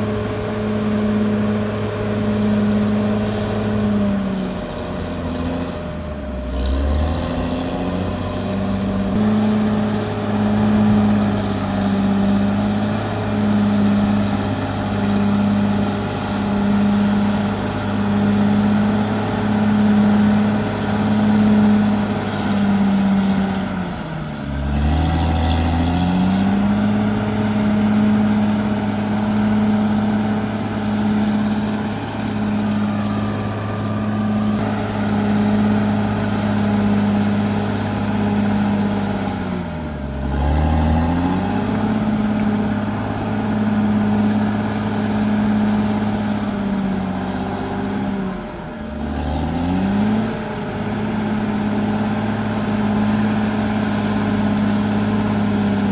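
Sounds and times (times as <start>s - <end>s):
bulldozer diesel engine revving: 0.0s - 55.9s.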